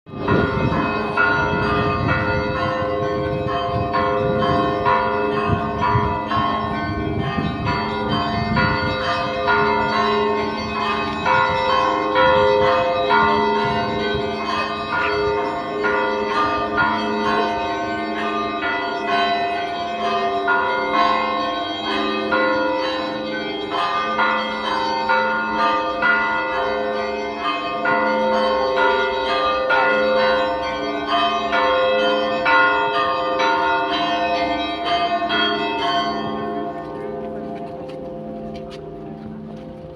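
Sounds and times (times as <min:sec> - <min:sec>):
church bells ringing: 0:00.1 - 0:39.9.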